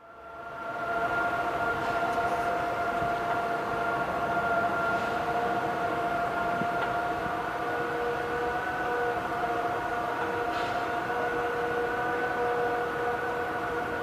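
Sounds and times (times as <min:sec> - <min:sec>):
machinery whining: 0:00.0 - 0:14.0.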